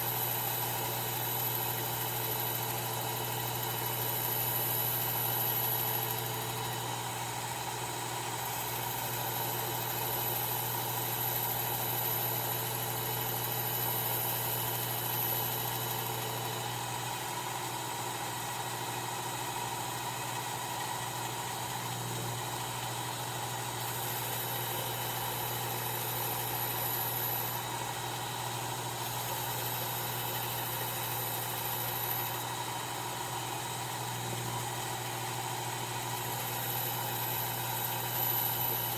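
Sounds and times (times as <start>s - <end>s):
belt sharpener motor hum: 0.0s - 38.9s.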